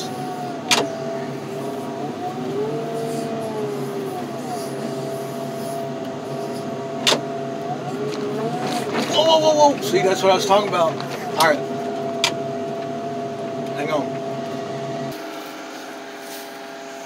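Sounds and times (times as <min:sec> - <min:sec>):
loader running with whine: 0:00.0 - 0:17.0.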